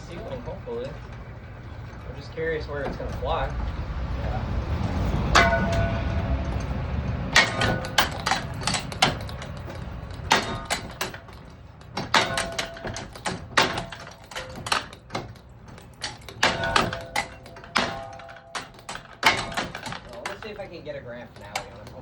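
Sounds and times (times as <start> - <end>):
metallic knocks and clanks: 0.0 - 22.0.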